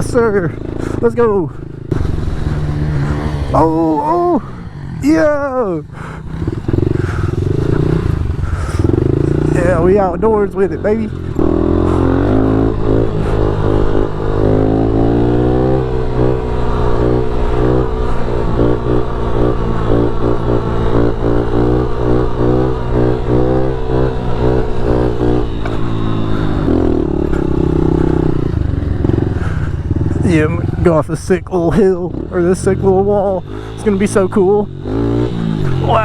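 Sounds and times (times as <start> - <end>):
pit bike engine running: 0.0 - 36.0.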